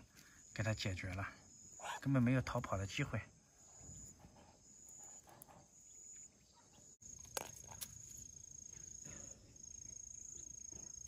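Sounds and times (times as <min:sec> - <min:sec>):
high thin insect trill: 0:00.0 - 0:11.0.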